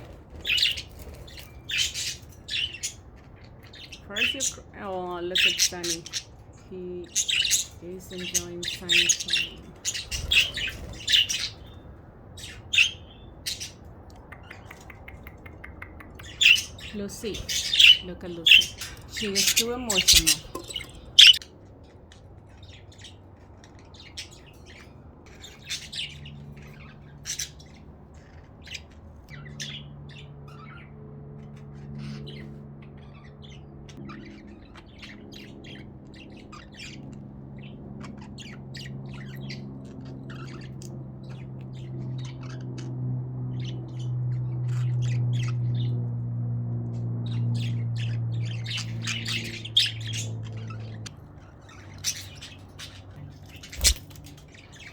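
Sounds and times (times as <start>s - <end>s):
budgerigars chirping: 0.0s - 21.4s, 22.5s - 30.9s, 31.8s - 42.7s, 43.5s - 45.9s, 47.2s - 54.9s
low droning hum: 0.0s - 54.9s.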